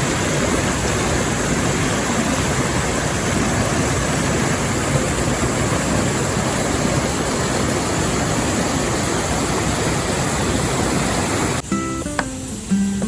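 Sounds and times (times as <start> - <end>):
fast-flowing river water: 0.0 - 13.0.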